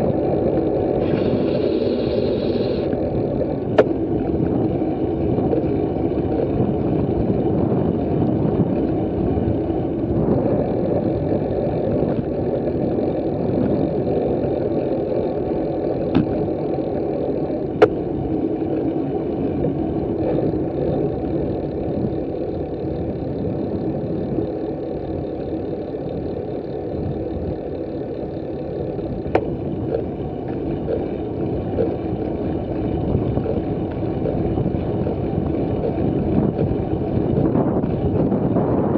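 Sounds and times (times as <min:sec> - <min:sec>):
tyre and road noise: 0:00.0 - 0:38.9
wind noise on microphone: 0:00.0 - 0:38.9.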